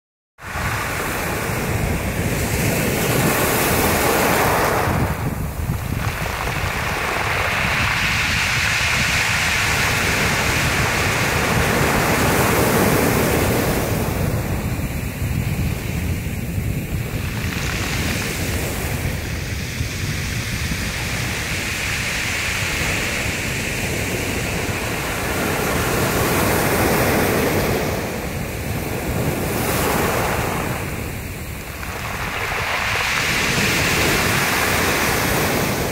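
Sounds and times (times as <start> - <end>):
waves washing over shingle: 0.4 - 35.9.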